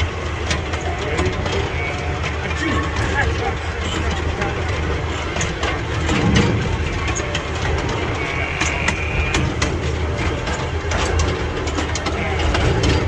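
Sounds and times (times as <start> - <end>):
miniature train rumbling: 0.0 - 13.0
train cars clicking and rattling: 0.0 - 13.0.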